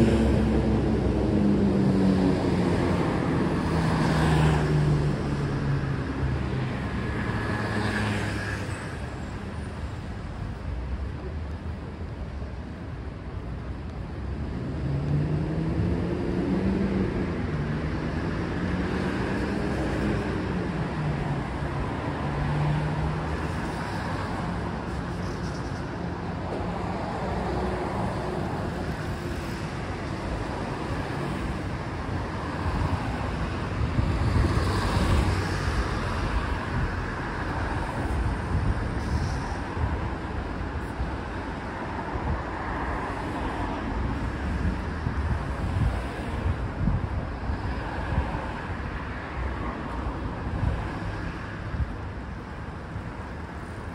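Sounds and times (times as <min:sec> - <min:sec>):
rumble of passing cars: 0:00.0 - 0:53.9.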